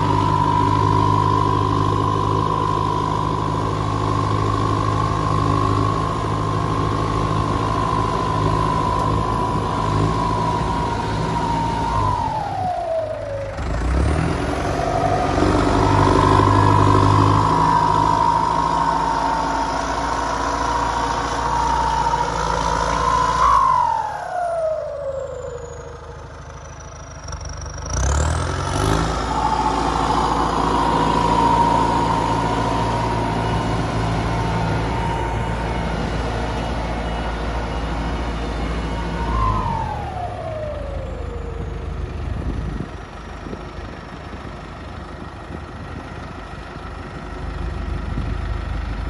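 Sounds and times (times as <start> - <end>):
turbo whine: 0.0 - 44.3
tractor diesel engine under load: 0.0 - 49.0.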